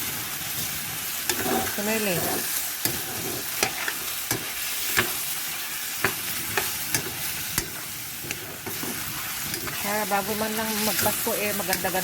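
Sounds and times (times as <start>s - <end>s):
chicken sizzling in a pot: 0.0s - 12.0s.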